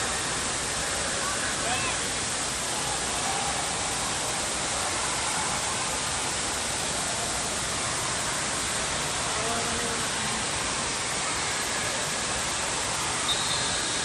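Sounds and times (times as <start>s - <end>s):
water falling and splashing: 0.0s - 14.0s.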